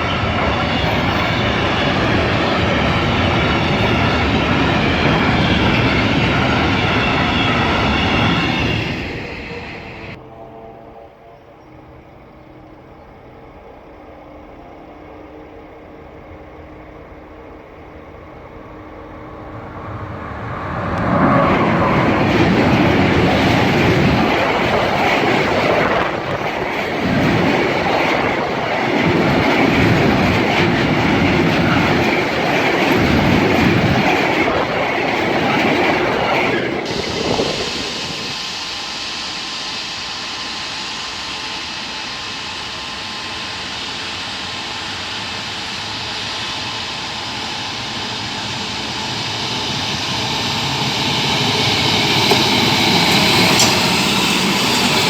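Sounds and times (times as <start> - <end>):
train wheel clatter: 0.0 - 10.2, 19.2 - 55.0
train passing: 0.0 - 55.0.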